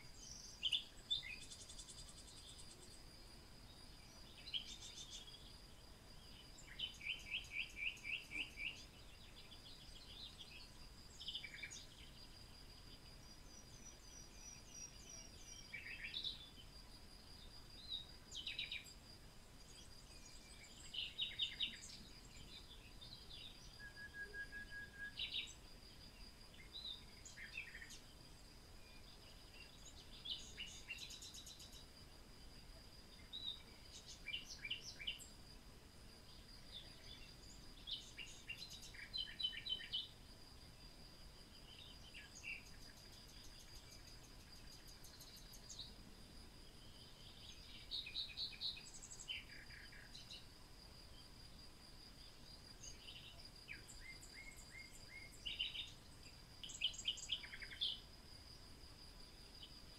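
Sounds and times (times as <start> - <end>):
songbirds chirping and singing: 0.0 - 31.9, 33.0 - 35.5, 36.1 - 40.4, 41.3 - 46.0, 46.6 - 51.3, 52.6 - 58.0.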